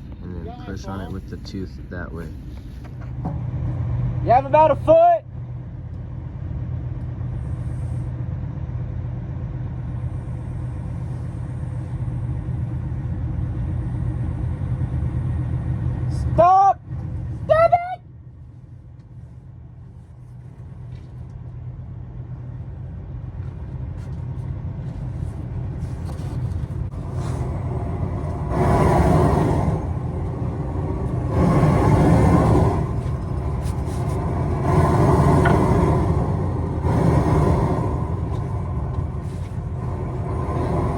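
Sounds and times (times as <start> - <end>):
heavy equipment engine rumbling: 0.0 - 40.9.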